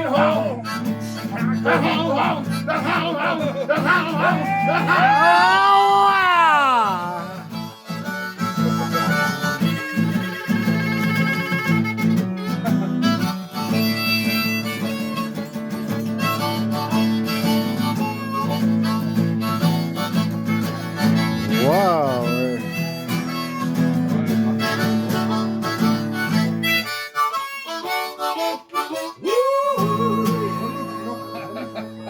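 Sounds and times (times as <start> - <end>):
blues harmonica: 0.0 - 32.0
guitar accompaniment: 0.0 - 32.0.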